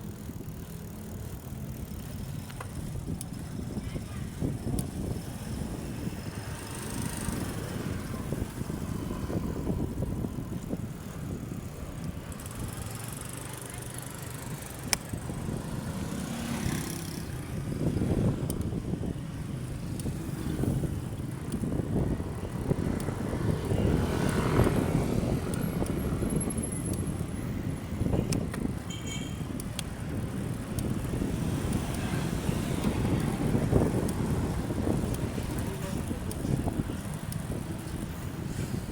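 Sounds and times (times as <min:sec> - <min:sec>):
bicycle road noise: 0:00.0 - 0:38.9
wind rumble on microphone: 0:01.7 - 0:12.9, 0:14.4 - 0:38.9.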